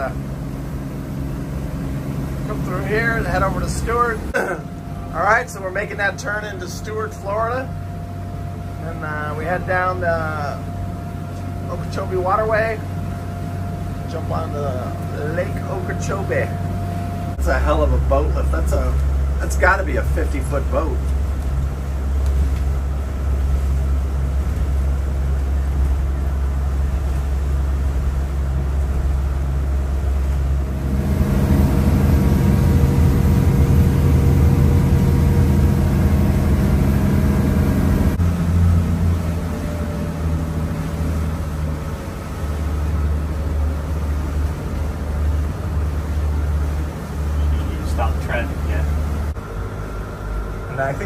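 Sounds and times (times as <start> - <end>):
boat engines droning: 0.0 - 51.0
water noise: 0.0 - 51.0
wind: 0.0 - 51.0.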